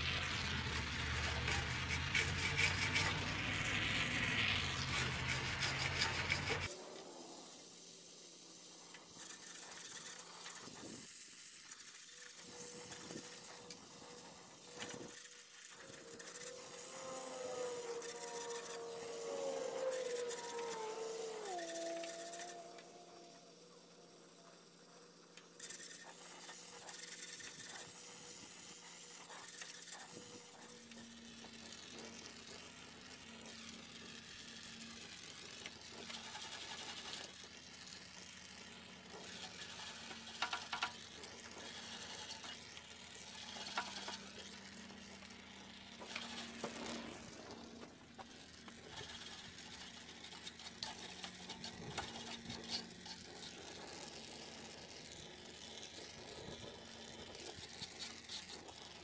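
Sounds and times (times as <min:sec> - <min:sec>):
acid flux sizzling: 0:00.0 - 0:59.0
crackles: 0:00.0 - 0:59.0.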